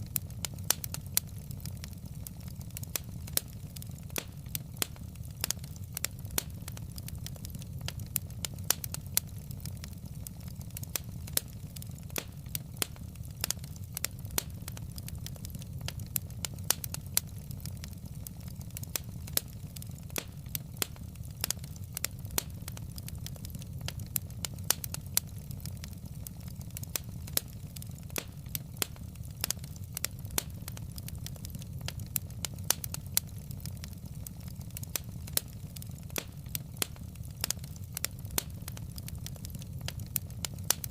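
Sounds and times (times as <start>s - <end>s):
burning logs popping: 0.0s - 40.9s
low fire rumble: 0.0s - 40.9s
wood fire crackling: 0.0s - 40.9s.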